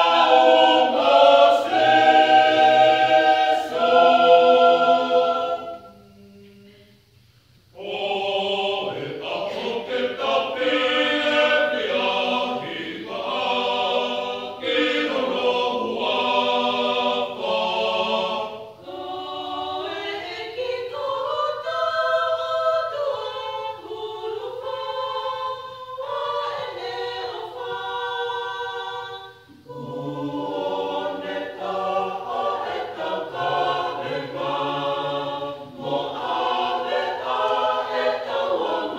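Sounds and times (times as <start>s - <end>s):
mixed choir singing a hymn: 0.0s - 6.4s, 7.7s - 38.9s.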